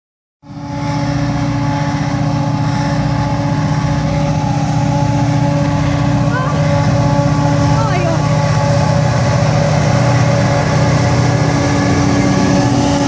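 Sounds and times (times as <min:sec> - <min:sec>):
diesel locomotive engine drone: 0:00.4 - 0:13.0.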